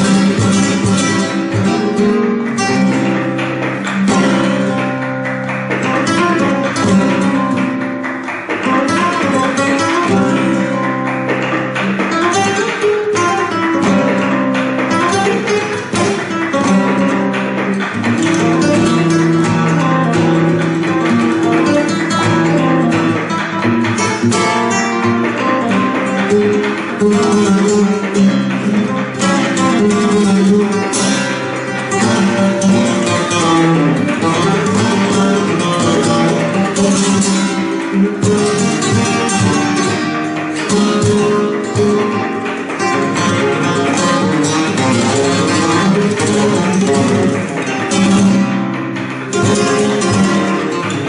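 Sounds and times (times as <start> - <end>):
flamenco guitar music: 0.0 - 51.0.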